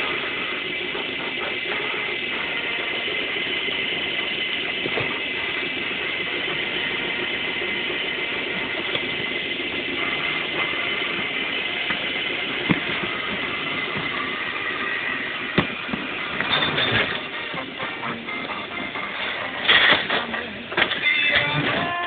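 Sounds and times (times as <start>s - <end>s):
machine droning: 0.0s - 22.0s.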